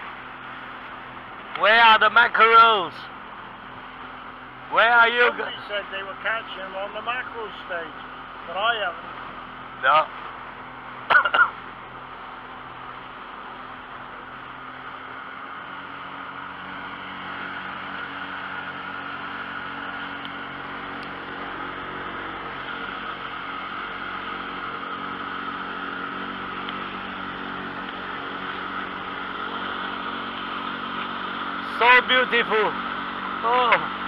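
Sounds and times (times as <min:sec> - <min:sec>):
outboard motor running: 0:00.0 - 0:34.0
water rushing: 0:00.0 - 0:34.0
wind: 0:00.0 - 0:34.0.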